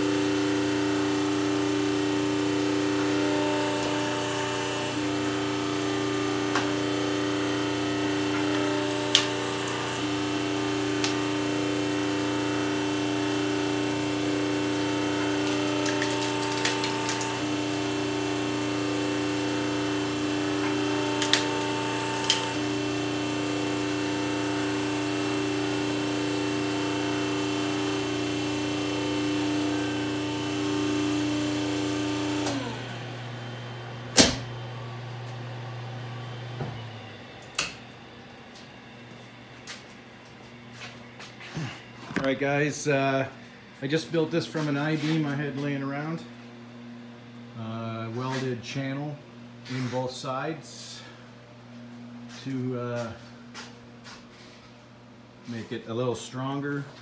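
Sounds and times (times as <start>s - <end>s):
electric motor and pump humming: 0.0s - 57.0s.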